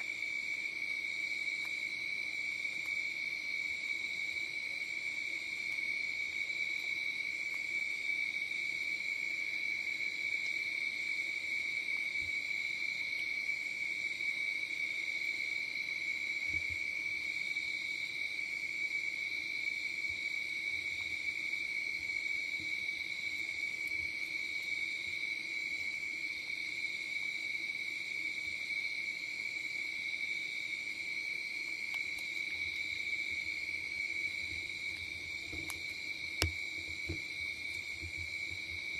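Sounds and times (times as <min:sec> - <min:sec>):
night insects trilling: 0:00.0 - 0:38.9.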